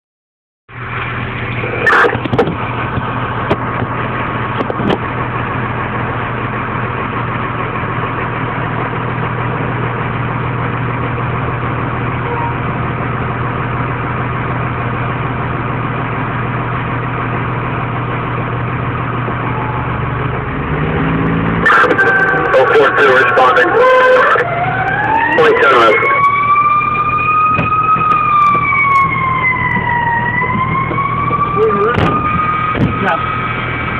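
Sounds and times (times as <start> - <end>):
fire engine idling: 0.7 - 20.8, 21.6 - 33.9.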